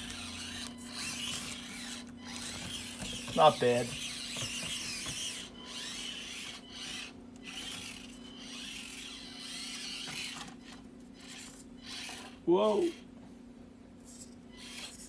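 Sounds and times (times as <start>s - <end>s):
small electric motor whining: 0.0s - 13.1s, 14.0s - 15.0s.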